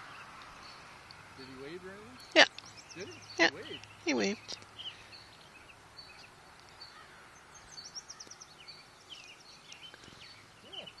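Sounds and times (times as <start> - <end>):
faint background hiss: 0.0 - 11.0
small songbirds chirping: 0.0 - 11.0.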